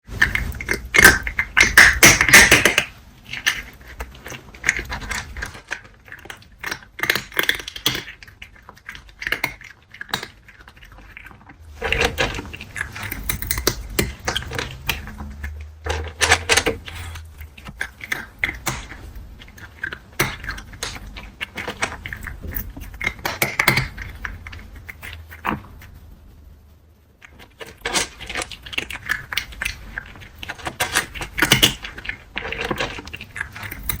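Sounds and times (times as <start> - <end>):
cat crunching dry kibble: 0.0 - 26.0, 27.2 - 34.0.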